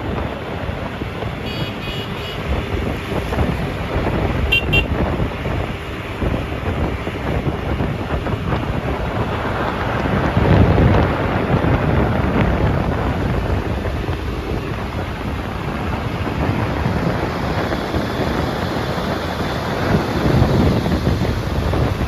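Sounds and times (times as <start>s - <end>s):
diesel machinery rumble: 0.0s - 22.0s
wind buffeting microphone: 0.0s - 22.0s.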